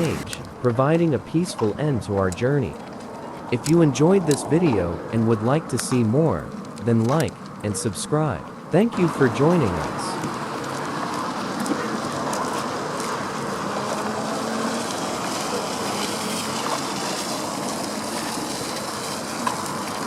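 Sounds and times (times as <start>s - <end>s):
shoreline background noise: 0.0s - 20.0s.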